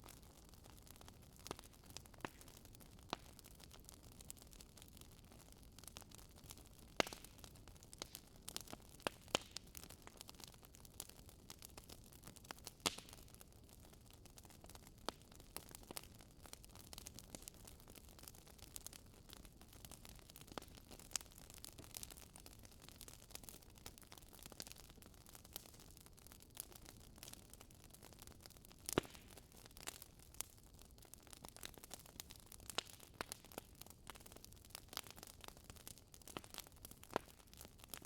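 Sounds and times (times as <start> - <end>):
burning wood crackling and popping: 0.0 - 38.0.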